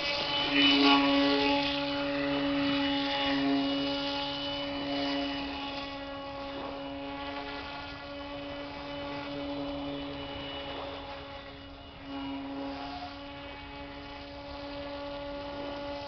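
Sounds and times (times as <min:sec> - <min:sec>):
model airboat motor and propeller: 0:00.0 - 0:16.0.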